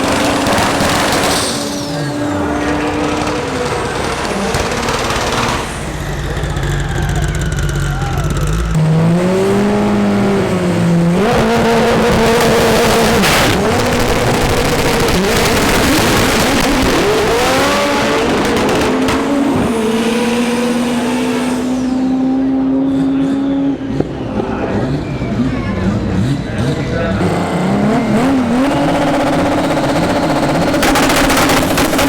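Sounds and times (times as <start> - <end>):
drag car engine revving and accelerating: 0.0 - 32.0.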